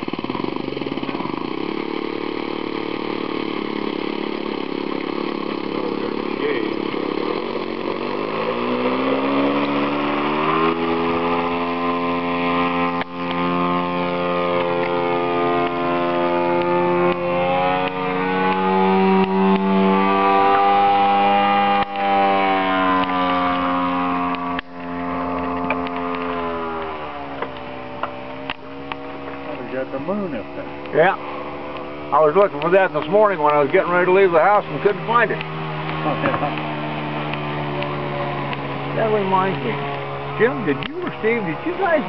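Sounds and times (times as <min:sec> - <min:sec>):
model airplane engine whining: 0:00.0 - 0:42.0.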